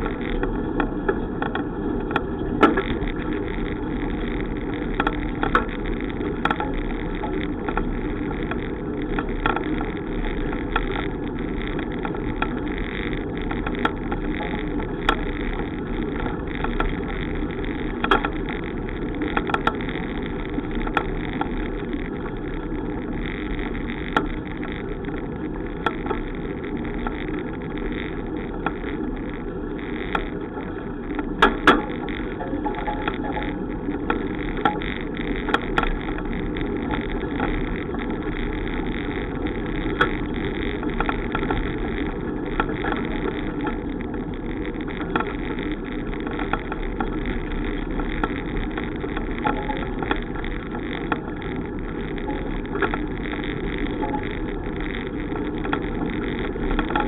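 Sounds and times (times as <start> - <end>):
bicycle ride rumble: 0.0 - 57.0.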